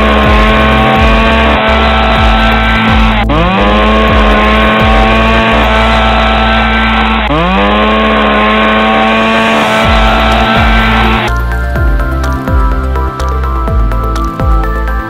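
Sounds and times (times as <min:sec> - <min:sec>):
buzzy synth chords: 0:00.0 - 0:15.0
heavy bass: 0:00.0 - 0:15.0.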